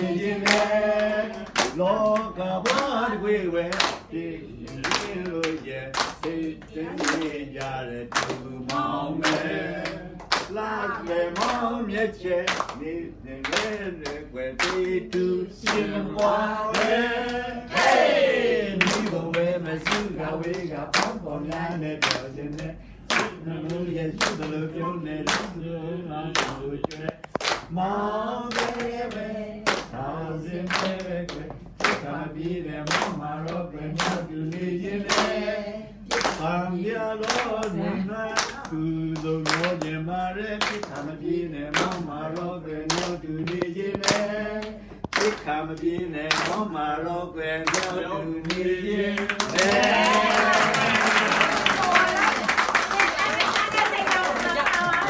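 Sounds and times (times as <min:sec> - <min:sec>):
people clapping along: 0:00.0 - 0:55.0
voices singing: 0:00.0 - 0:55.0.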